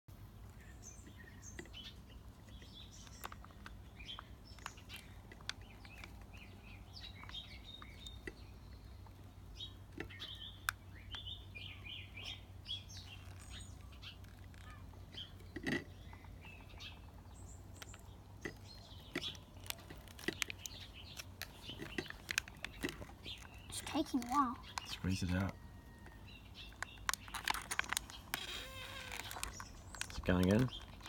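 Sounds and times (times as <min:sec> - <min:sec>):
small birds chirping: 0:00.2 - 0:31.0.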